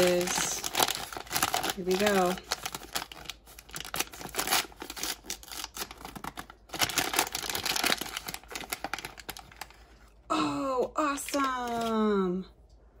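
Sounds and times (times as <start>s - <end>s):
plastic packaging crinkling and tearing: 0.0s - 10.1s, 11.2s - 12.3s.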